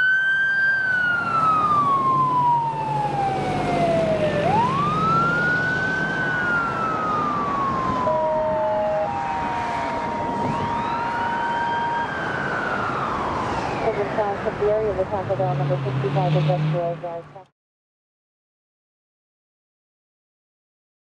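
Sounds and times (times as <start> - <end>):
fire engine siren wailing: 0.0 - 17.5.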